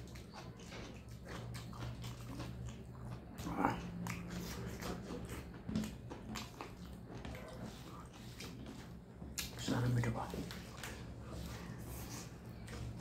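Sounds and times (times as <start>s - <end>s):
wet chewing and lip smacking: 0.0s - 13.0s.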